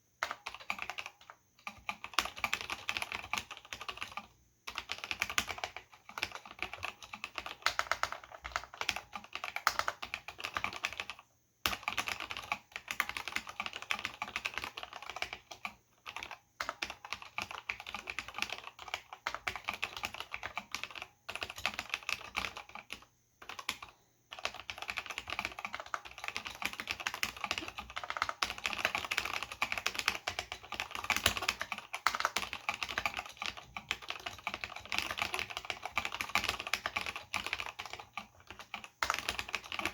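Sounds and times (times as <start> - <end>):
keyboard typing clatter: 0.2 - 39.9.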